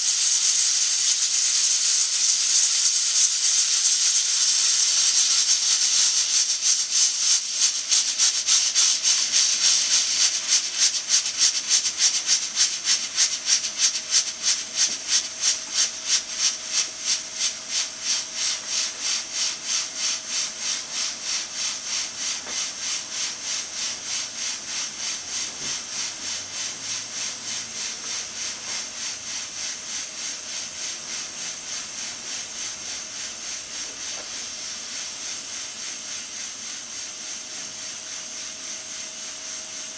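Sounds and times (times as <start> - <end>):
pressure cooker steam hissing: 0.0 - 39.9.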